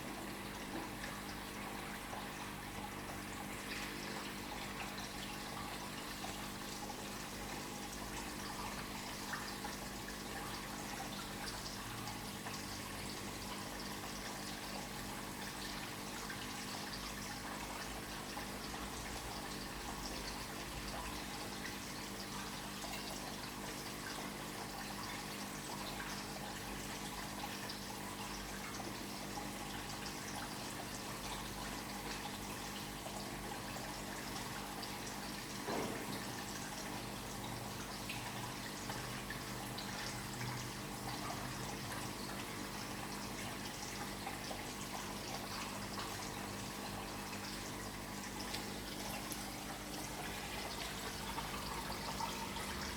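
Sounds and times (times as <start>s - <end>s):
aquarium water trickling: 0.0s - 52.9s.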